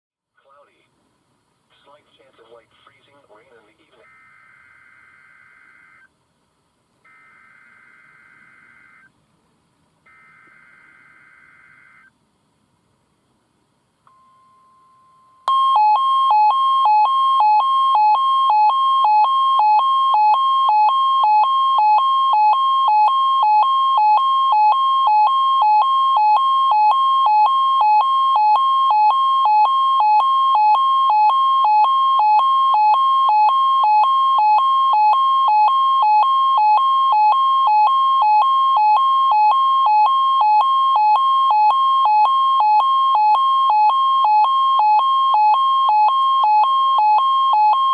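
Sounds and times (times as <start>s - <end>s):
faint steady tone: 0.4s - 47.9s
electronic two-tone alarm: 4.0s - 6.1s, 7.1s - 9.1s, 10.1s - 12.1s, 14.1s - 47.9s.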